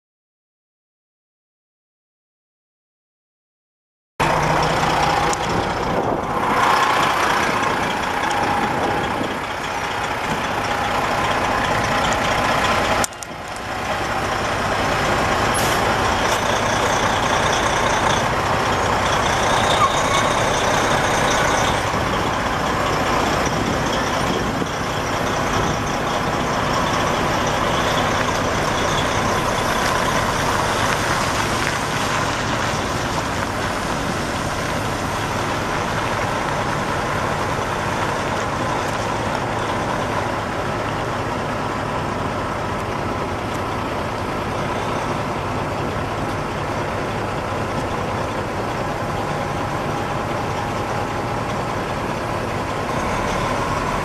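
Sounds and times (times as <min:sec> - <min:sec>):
diesel truck engine running: 0:04.2 - 0:54.0.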